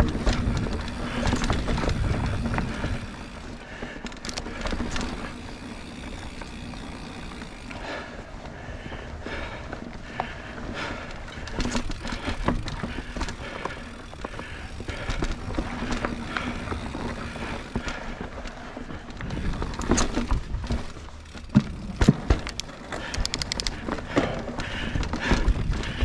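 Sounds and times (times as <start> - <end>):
bike frame and chain rattling: 0.0 - 26.0
bike tyres on dirt: 0.0 - 26.0.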